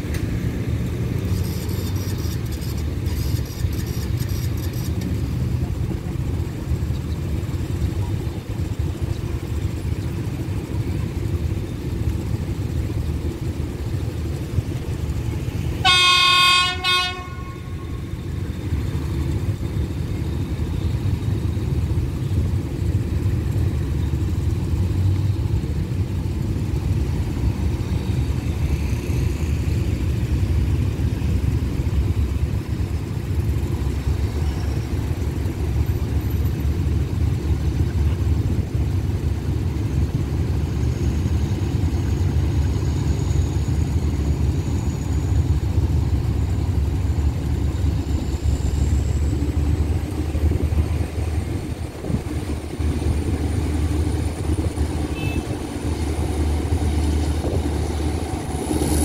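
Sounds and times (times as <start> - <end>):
engines idling rumble: 0.0 - 59.0.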